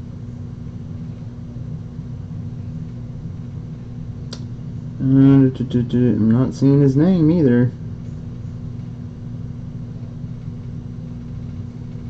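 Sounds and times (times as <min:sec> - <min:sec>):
low electrical room hum: 0:00.0 - 0:12.0.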